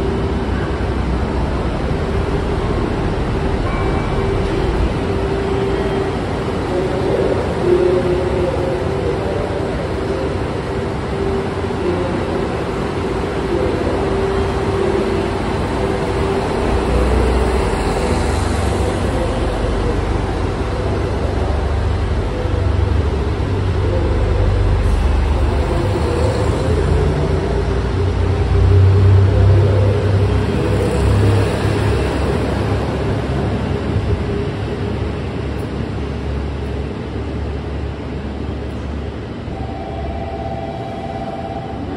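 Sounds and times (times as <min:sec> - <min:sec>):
diesel train engines rumbling: 0:00.0 - 0:41.9.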